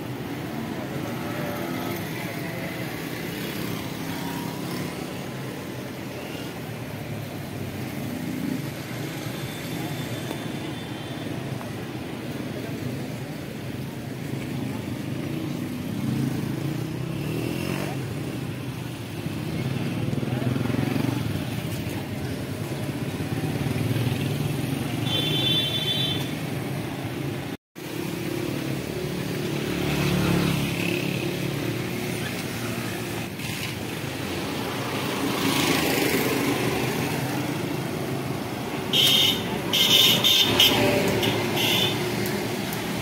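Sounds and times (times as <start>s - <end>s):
motorcycles passing: 0.0s - 10.5s, 11.4s - 43.0s
street traffic: 0.0s - 43.0s.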